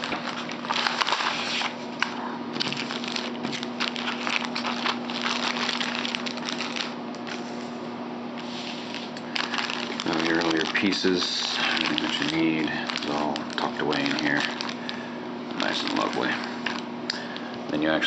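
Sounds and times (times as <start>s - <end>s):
packaging crinkling: 0.0s - 7.6s, 8.7s - 17.8s.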